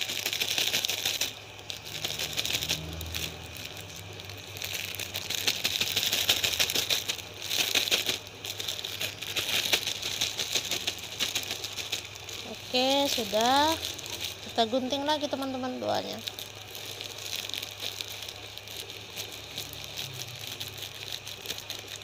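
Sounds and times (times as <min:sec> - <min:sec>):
plastic sleeve crinkling: 0:00.0 - 0:22.0.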